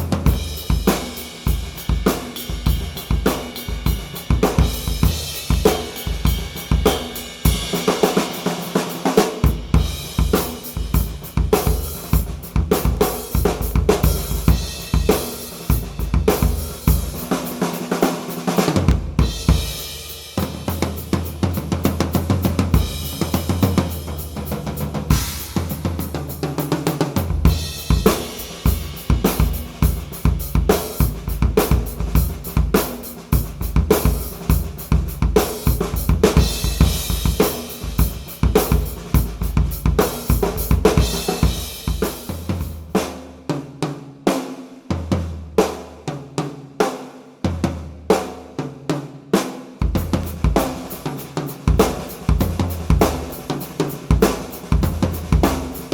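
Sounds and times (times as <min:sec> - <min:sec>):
cymbals and hi-hats: 0:00.0 - 0:44.7, 0:48.0 - 0:55.9
drum kit groove: 0:00.0 - 0:55.9.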